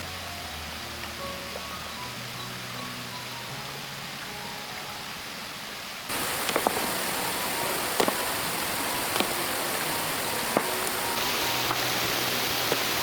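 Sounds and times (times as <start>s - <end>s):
falling water rushing: 0.0s - 13.0s.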